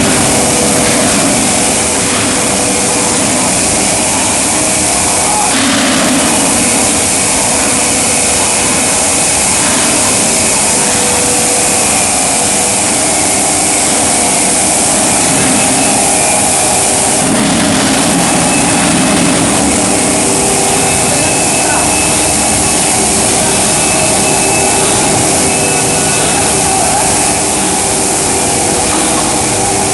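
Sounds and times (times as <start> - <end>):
welding line machine noise: 0.0 - 29.9.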